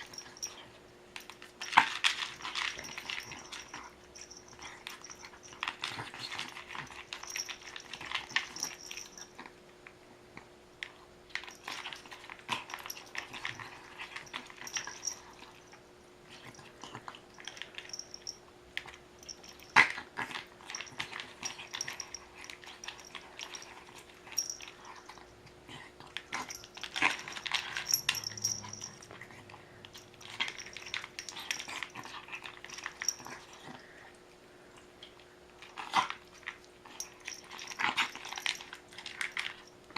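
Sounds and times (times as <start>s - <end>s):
dog eating and drinking: 0.0s - 9.6s, 10.8s - 39.9s
faint steady hum: 0.0s - 39.9s.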